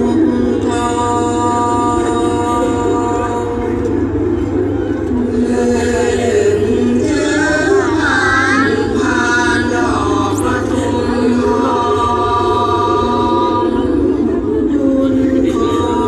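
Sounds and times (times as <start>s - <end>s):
chanted vocal music: 0.0s - 16.0s
steady low backing: 0.0s - 16.0s.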